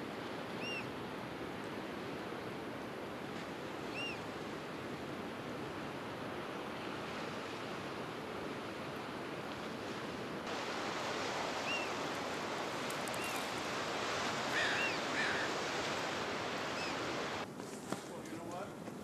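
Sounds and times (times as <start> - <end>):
surf washing on shore: 0.0 - 17.5.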